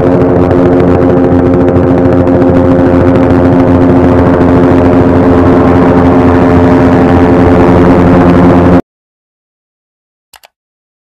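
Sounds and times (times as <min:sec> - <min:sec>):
helicopter engine drone: 0:00.0 - 0:08.8
helicopter rotor chop: 0:00.0 - 0:08.8.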